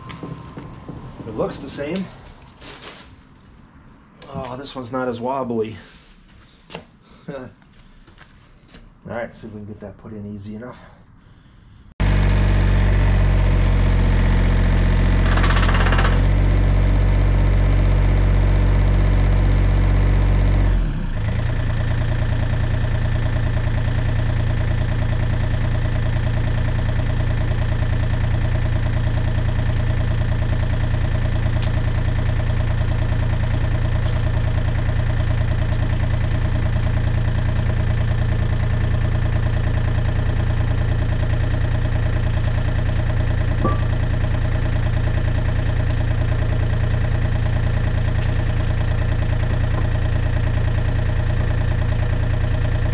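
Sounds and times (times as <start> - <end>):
diesel engine running: 0.0 - 4.6, 11.2 - 52.9.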